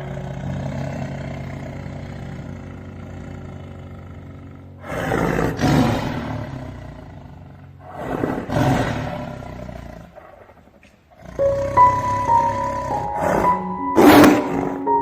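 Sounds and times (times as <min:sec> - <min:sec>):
music: 0:00.0 - 0:09.4, 0:11.4 - 0:15.0
large animal roaring: 0:00.0 - 0:15.0.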